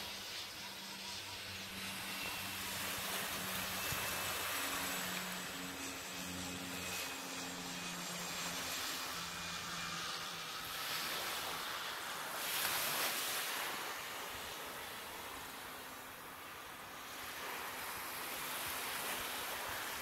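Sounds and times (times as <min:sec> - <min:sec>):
propeller plane droning overhead: 0:00.0 - 0:20.0
small waves washing on shore: 0:01.4 - 0:20.0.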